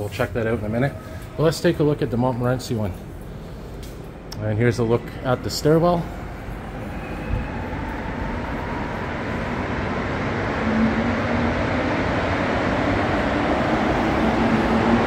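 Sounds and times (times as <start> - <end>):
train rumbling through station: 0.0 - 15.0.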